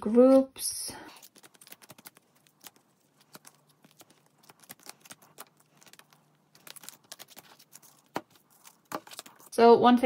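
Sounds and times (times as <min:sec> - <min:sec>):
plastic-sleeved cards clicking: 0:01.1 - 0:09.5.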